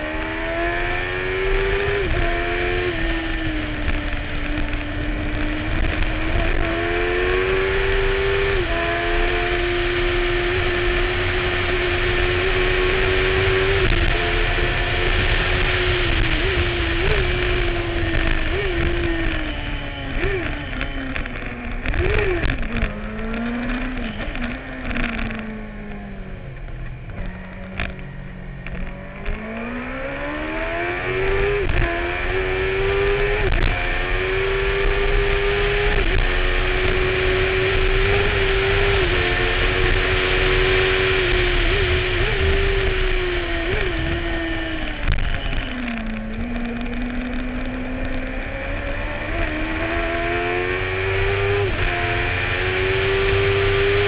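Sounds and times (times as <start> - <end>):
racing engine at high revs: 0.0 - 54.0
wind rushing over microphone: 0.0 - 54.0.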